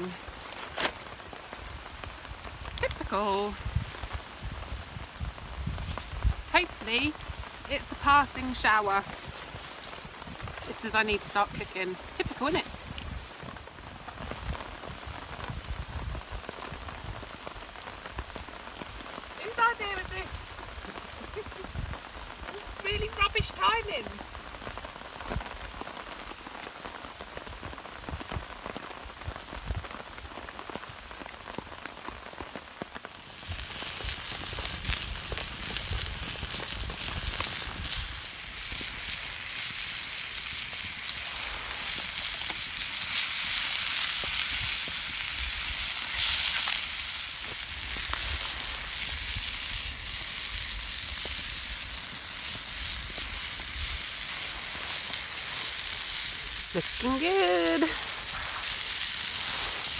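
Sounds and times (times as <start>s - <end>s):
food sizzling: 0.0s - 29.5s, 30.5s - 59.9s
light rain pattering: 0.0s - 59.9s.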